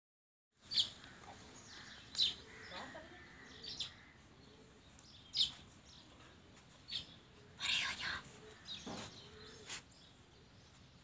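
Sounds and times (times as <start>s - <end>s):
small bird chirping: 0.6s - 11.0s.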